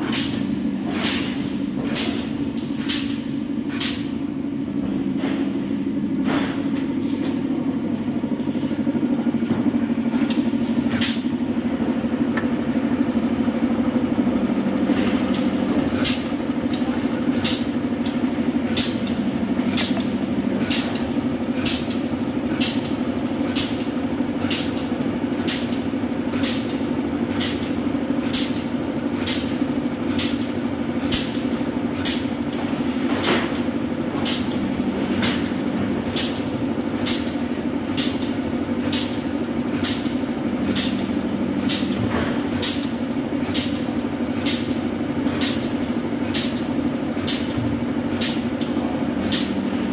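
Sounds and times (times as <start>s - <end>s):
machine hum: 0.0s - 49.9s.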